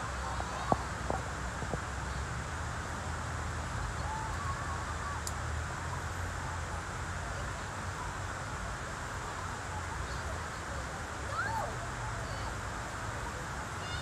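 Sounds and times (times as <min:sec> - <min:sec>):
faint distant voices: 0:00.0 - 0:14.0
low rumble and hiss: 0:00.0 - 0:14.0.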